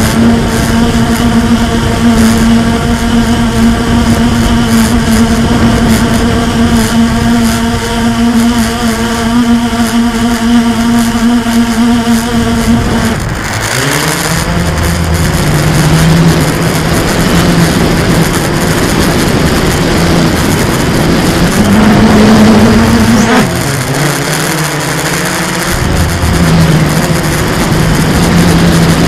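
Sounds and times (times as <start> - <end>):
quadcopter motors humming: 0.0 - 29.0.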